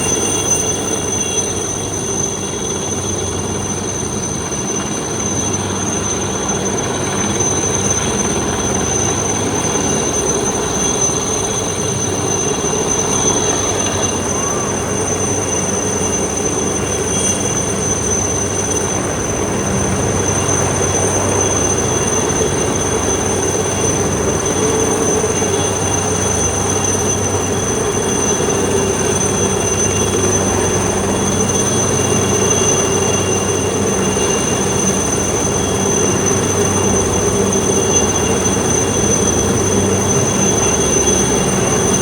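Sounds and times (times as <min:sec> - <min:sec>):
high whine: 0:00.0 - 0:42.0
train rumble: 0:00.0 - 0:42.0.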